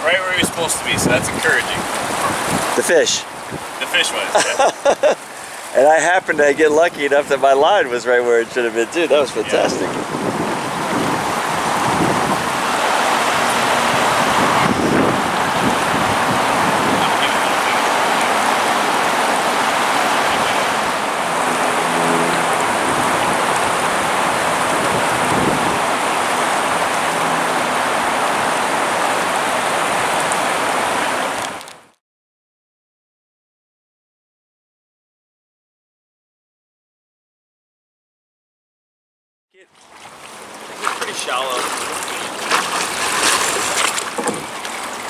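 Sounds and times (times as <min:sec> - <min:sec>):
river water rushing: 0:00.0 - 0:31.9, 0:39.7 - 0:45.0.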